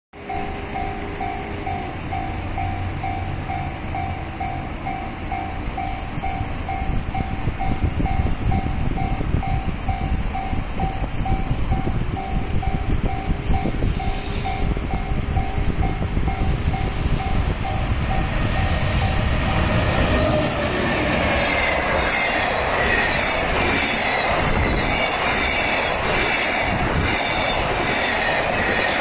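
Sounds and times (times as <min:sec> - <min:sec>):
level-crossing warning bell: 0:00.2 - 0:29.0
low rumble: 0:04.9 - 0:29.0.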